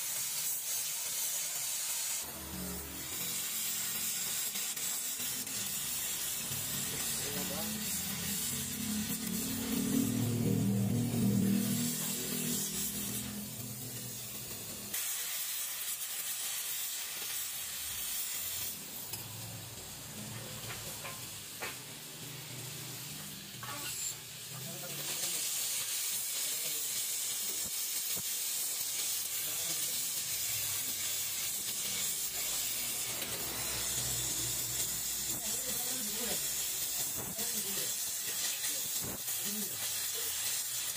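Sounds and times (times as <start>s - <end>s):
welding torch flame hissing: 0.0s - 40.9s.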